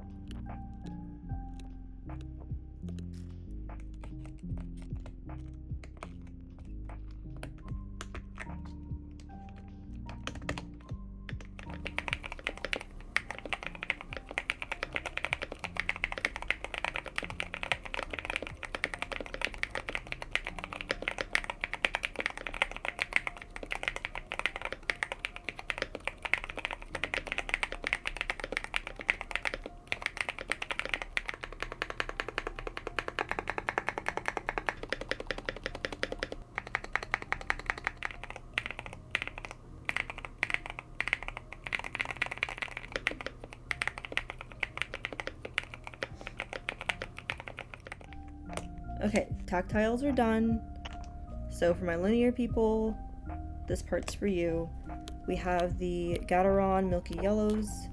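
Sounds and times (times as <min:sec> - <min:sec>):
quiet background music: 0:00.0 - 0:57.9
fast mechanical keyboard typing: 0:03.8 - 0:49.3, 0:55.0 - 0:57.9.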